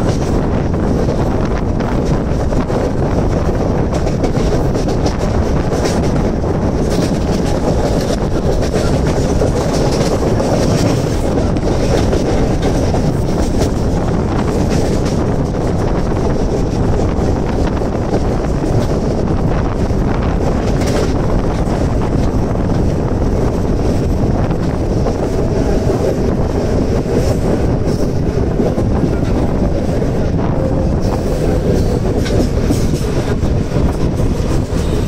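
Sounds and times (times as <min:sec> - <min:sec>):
train wheels rumbling on rails: 0:00.0 - 0:35.0
wind rushing over microphone: 0:00.0 - 0:35.0.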